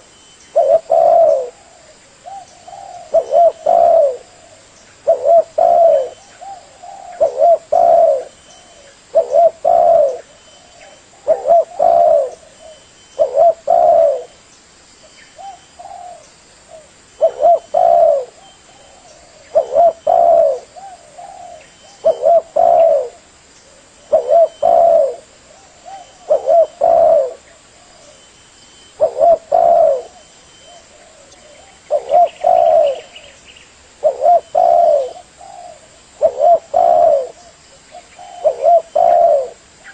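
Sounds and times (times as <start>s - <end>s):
dove cooing: 0.0s - 14.4s, 15.4s - 28.2s, 28.8s - 39.9s.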